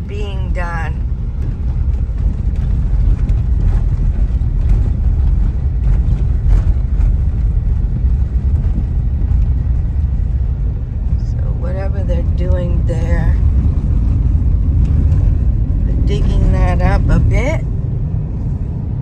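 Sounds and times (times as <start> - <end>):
car driving on road: 0.0 - 19.0.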